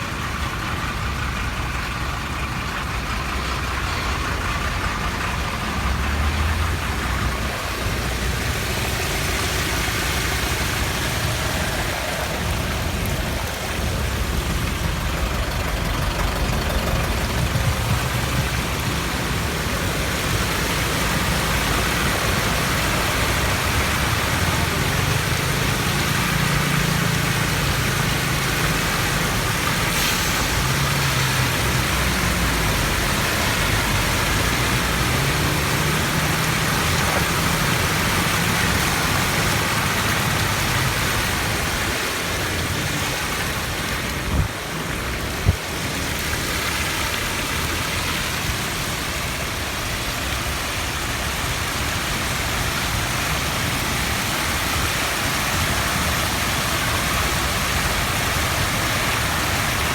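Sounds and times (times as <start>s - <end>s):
rain and floodwater rushing: 0.0s - 59.9s.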